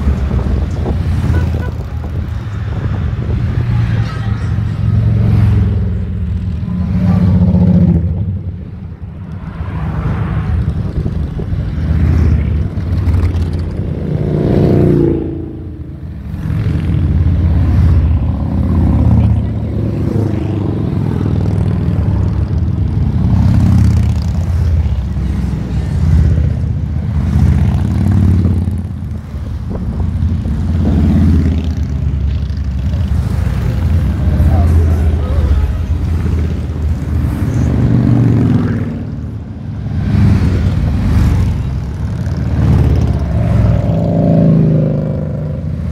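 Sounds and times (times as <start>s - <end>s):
motorcycles riding past: 0.0s - 45.9s.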